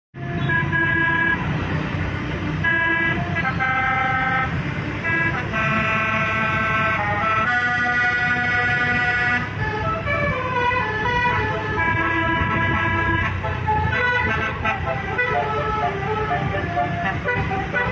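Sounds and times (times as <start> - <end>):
melodic bus horn playing: 0.2 - 17.9
low engine rumble: 0.4 - 17.9.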